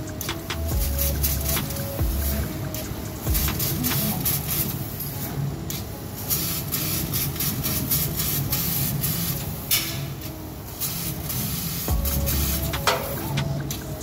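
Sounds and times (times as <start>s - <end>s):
laser cutter hissing: 0.0s - 14.0s.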